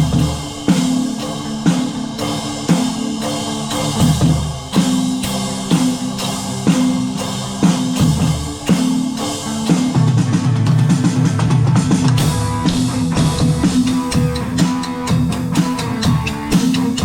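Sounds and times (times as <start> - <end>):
drums and cymbals: 0.0 - 17.0
electric guitar riff: 0.0 - 17.0.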